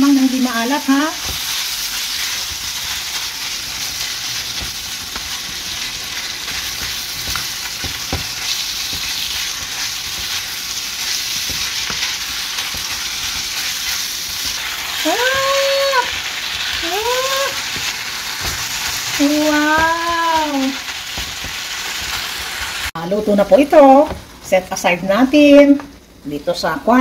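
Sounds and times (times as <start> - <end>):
food sizzling in a pan: 0.0 - 27.0
wooden spoon scraping: 1.1 - 22.9.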